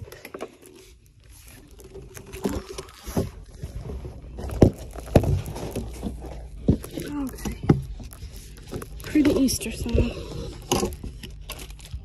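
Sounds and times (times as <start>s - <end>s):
cardboard rustling and scraping: 0.0s - 12.0s.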